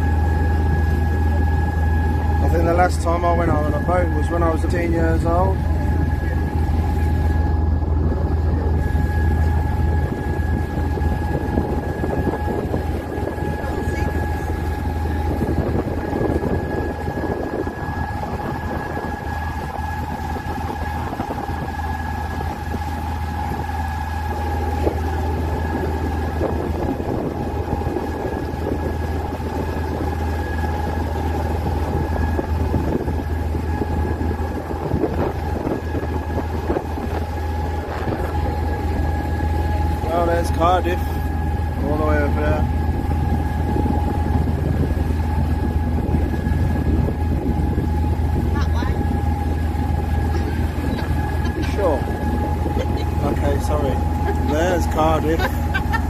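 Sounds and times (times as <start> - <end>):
boat engine drone: 0.0 - 56.0
steady engine whine: 0.0 - 56.0.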